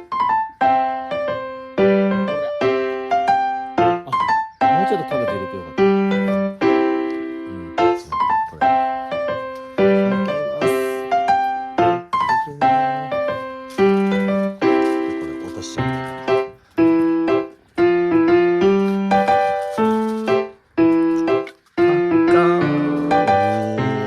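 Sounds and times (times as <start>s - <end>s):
piano chords melody: 0.0s - 24.0s.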